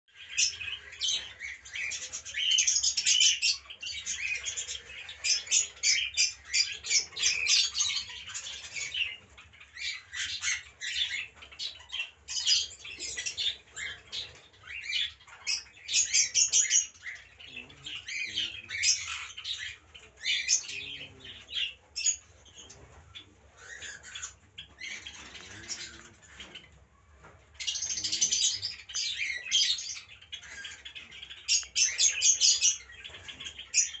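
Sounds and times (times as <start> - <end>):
birds chirping and squawking: 0.1 - 34.0.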